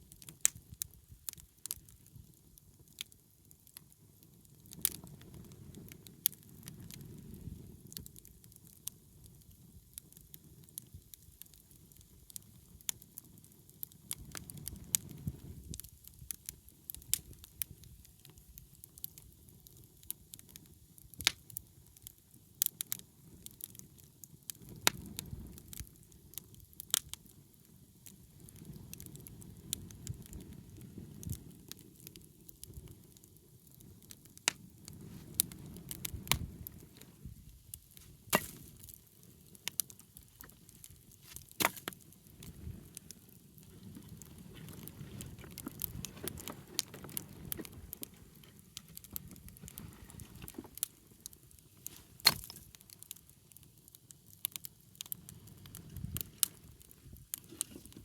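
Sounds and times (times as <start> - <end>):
bonfire crackling and popping: 0.0 - 58.0
low rumble of flames: 0.0 - 58.0.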